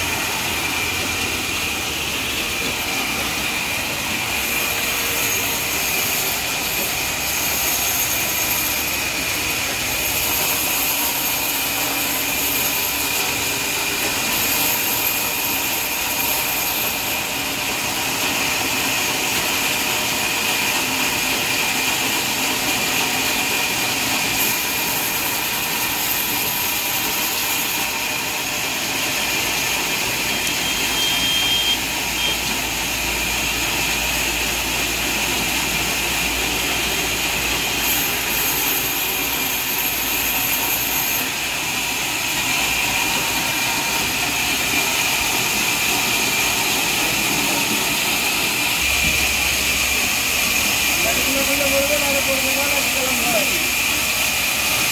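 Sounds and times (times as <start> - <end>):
band saw cutting wood: 0.0 - 54.9.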